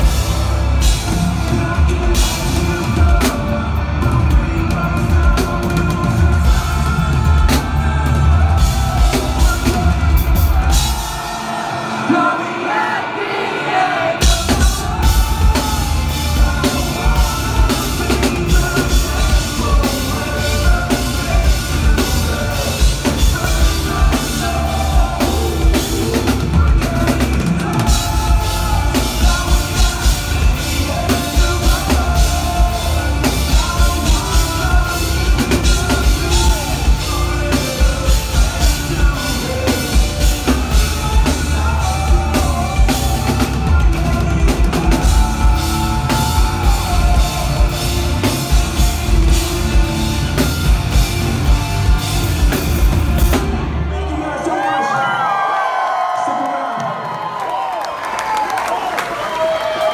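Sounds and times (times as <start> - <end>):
live rock band playing: 0.0 - 54.5.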